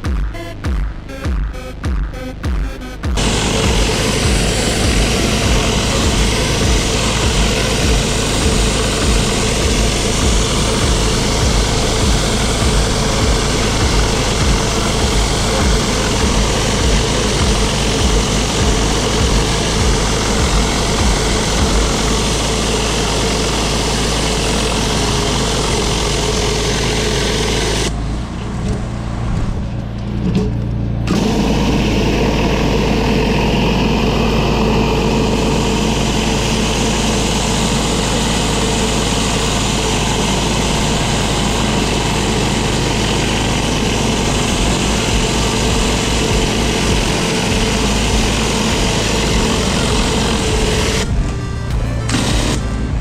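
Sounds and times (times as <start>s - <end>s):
pressure washer engine running: 3.2s - 29.9s, 30.9s - 53.0s.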